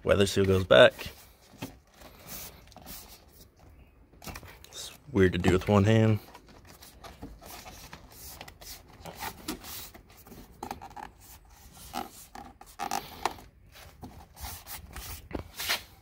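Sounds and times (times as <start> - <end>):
hose rubbing and rustling: 0.2 - 16.0.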